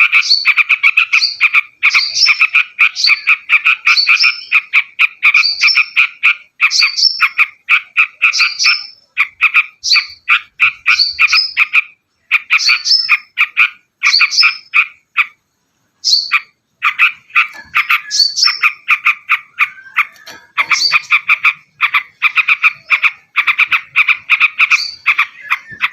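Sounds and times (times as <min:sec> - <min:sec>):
bulbul singing: 0:00.1 - 0:13.4, 0:16.0 - 0:25.9.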